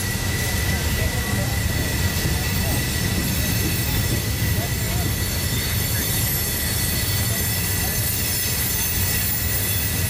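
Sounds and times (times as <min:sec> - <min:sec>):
high wheel squeal: 0:00.0 - 0:10.0
wheels rumbling on rail: 0:00.0 - 0:10.0.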